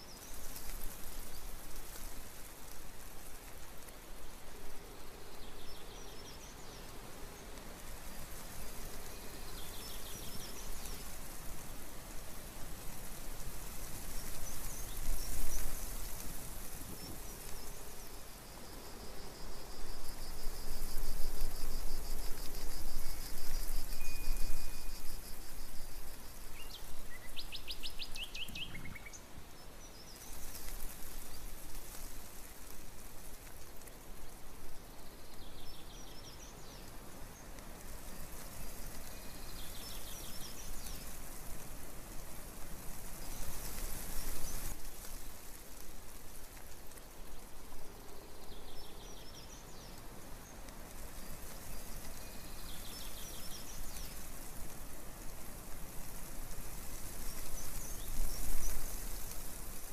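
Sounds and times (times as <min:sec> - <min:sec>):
outdoor hiss: 0:00.0 - 0:59.9
small birds trilling and chirping: 0:00.0 - 0:59.9.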